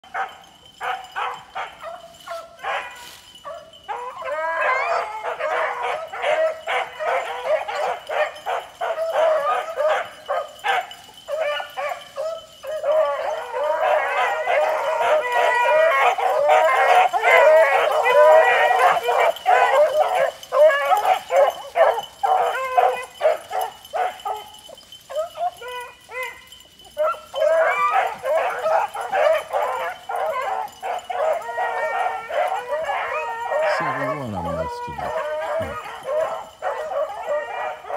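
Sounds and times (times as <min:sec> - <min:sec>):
dogs baying and barking: 0:00.0 - 0:37.9.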